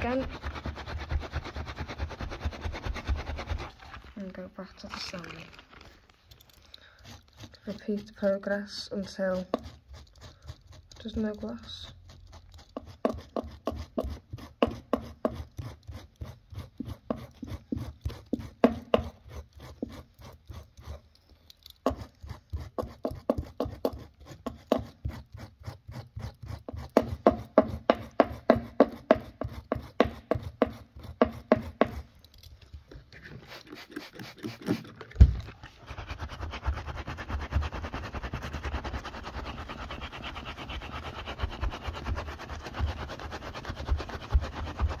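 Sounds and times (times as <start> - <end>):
knife scraping carpet: 0.0 - 4.2, 6.9 - 32.4, 33.0 - 45.0.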